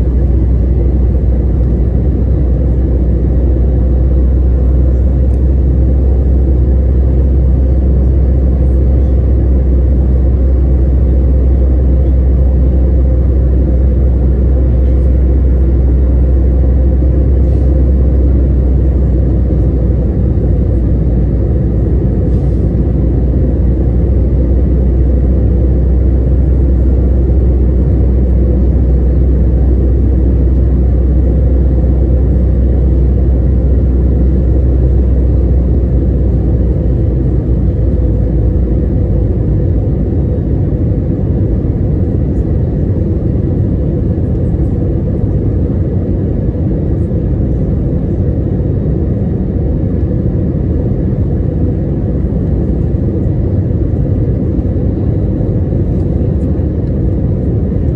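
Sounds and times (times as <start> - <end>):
jet airliner cabin rumble: 0.0 - 57.9.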